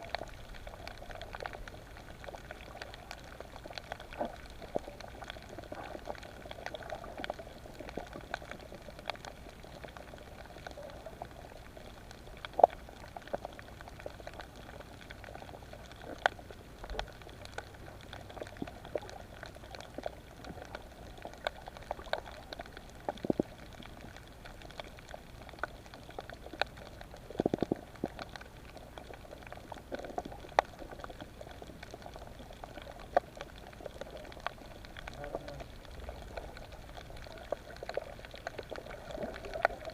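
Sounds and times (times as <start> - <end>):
bubbling gurgles: 0.0 - 39.9
sharp clicks and crackles: 0.0 - 39.9.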